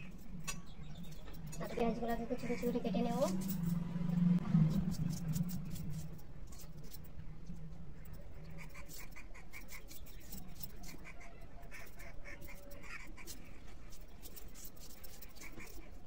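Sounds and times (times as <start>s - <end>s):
knife ticking cutting vegetables: 0.0s - 7.1s, 8.0s - 16.0s.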